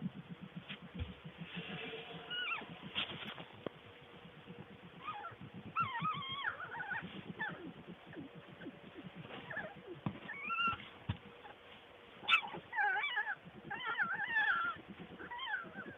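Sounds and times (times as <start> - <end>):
skunk squeaking: 0.0 - 11.6, 12.2 - 15.9
low rapid pulsing: 0.0 - 15.9.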